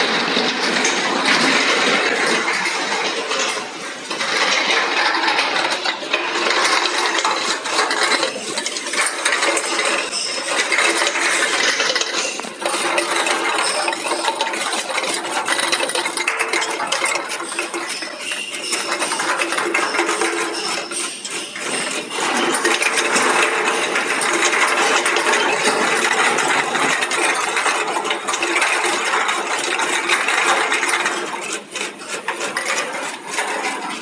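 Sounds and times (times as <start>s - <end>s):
bottles clattering together: 0.0s - 34.0s.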